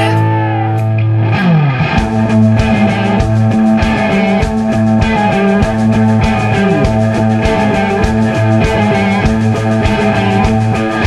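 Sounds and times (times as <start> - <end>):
bass guitar: 0.0 - 11.0
electric guitar: 0.0 - 11.0
steady drums: 0.0 - 11.0.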